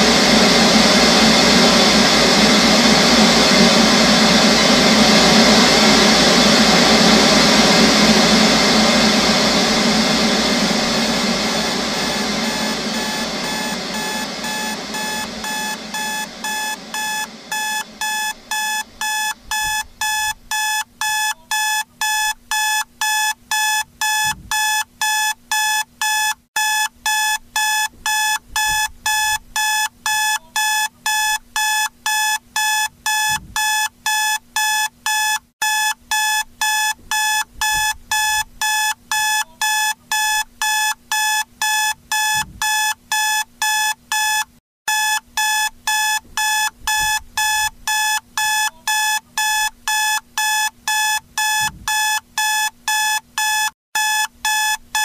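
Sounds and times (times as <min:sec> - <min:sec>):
electronic alarm beeping: 0:08.2 - 0:55.0.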